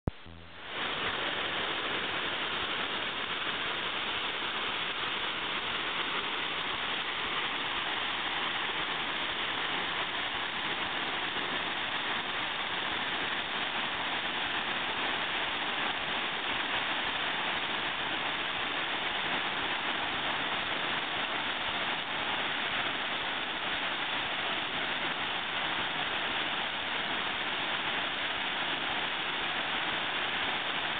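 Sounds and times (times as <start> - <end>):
waterfall rushing into pool: 0.1 - 30.9.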